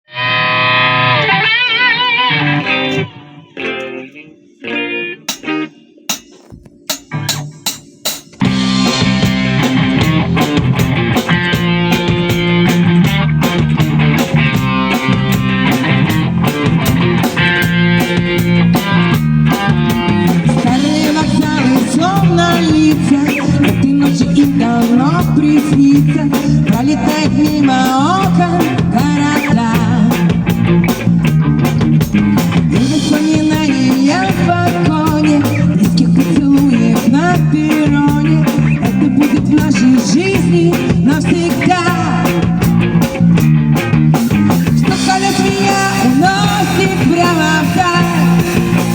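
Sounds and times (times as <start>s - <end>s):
band playing upbeat rock: 0.1s - 48.9s.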